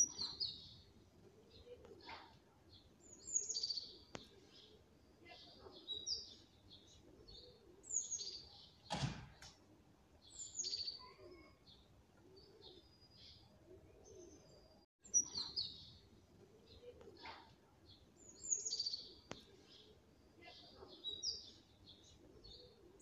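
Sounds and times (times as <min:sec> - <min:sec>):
birds chirping: 0:00.0 - 0:09.5, 0:10.2 - 0:23.0.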